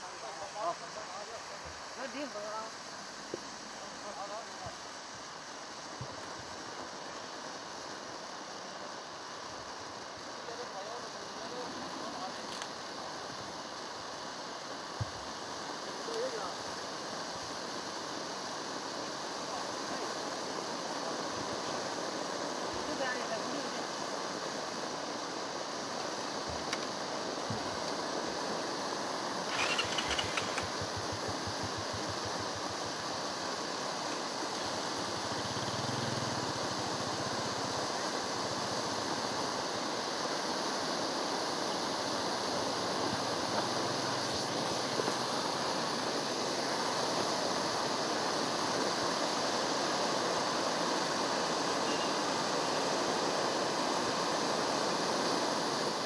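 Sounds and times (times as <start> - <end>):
firework fountain hissing: 0.0 - 56.0.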